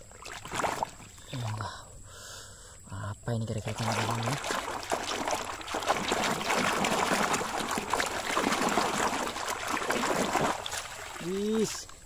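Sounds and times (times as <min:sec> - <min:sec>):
muddy water splashing: 0:00.0 - 0:01.7, 0:03.4 - 0:12.0.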